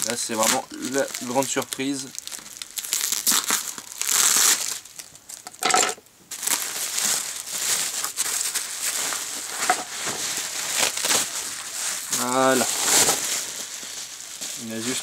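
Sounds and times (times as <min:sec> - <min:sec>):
bubble wrap crinkling: 0:00.0 - 0:05.6, 0:06.3 - 0:15.0.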